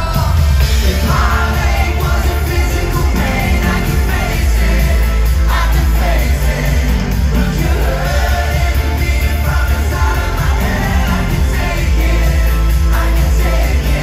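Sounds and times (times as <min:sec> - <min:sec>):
loud band with heavy bass: 0:00.0 - 0:14.0
men singing into microphones: 0:00.0 - 0:14.0.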